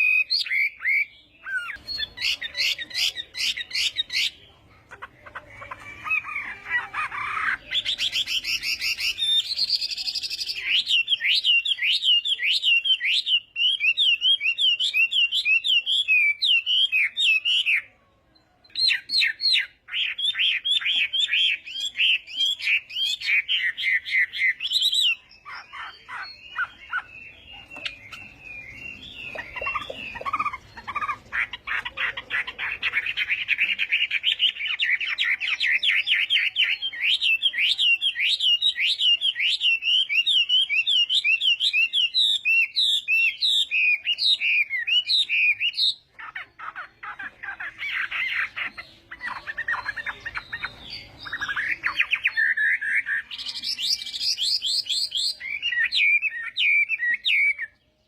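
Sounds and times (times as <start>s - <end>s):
songbird singing with fast trills: 0.0s - 58.0s.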